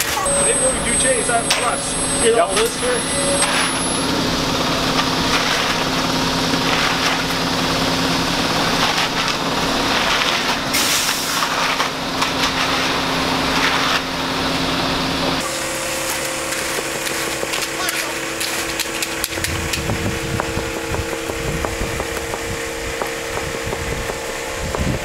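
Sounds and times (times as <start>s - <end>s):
rakes scraping wet concrete: 0.0s - 24.6s
truck engine running: 0.0s - 25.0s.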